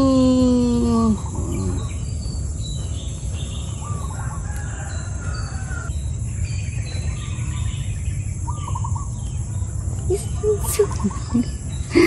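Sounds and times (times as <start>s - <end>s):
birds chirping: 0.0s - 12.0s
steady low rumble: 0.1s - 12.0s.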